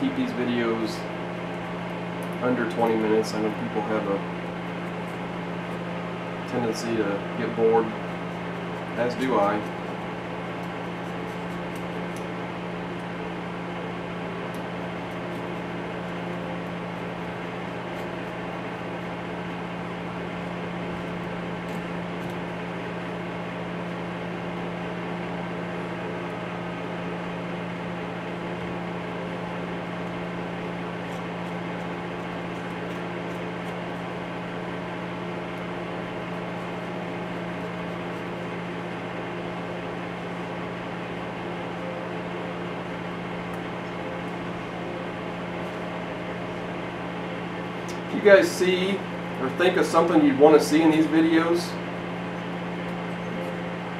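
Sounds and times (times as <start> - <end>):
steady mechanical hum: 0.0 - 53.9.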